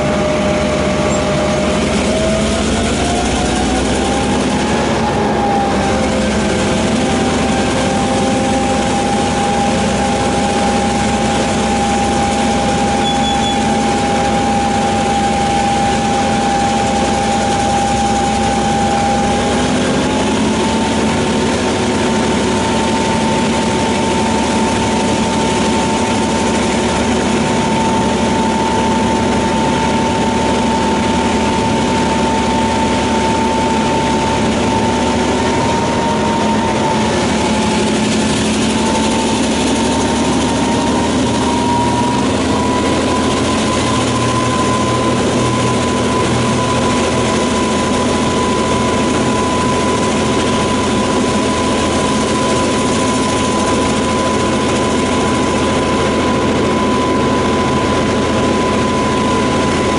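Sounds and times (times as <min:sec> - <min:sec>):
high engine whine: 0:00.0 - 0:59.9
locomotive engine drone: 0:00.0 - 0:59.9
rushing of moving train: 0:00.0 - 0:59.9.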